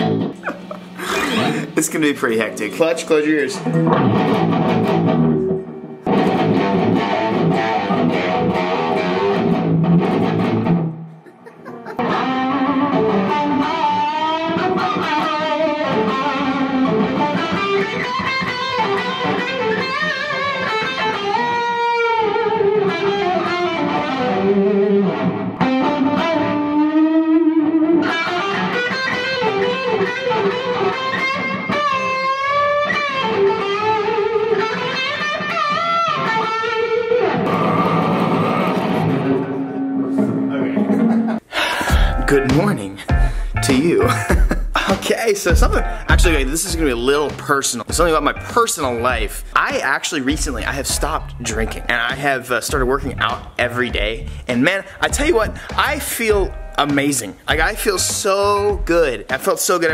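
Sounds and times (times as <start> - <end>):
distorted electric guitar riffing: 0.0 - 1.8, 3.6 - 59.9.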